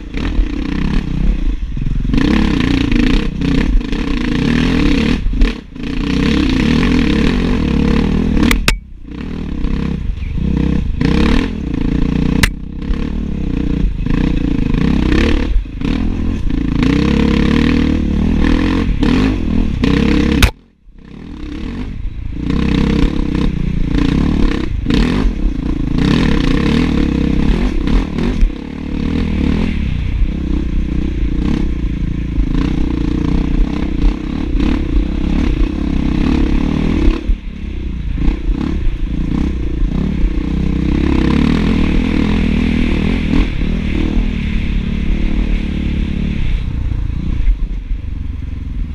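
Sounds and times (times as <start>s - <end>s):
dirt bike engine running hard: 0.0s - 48.9s.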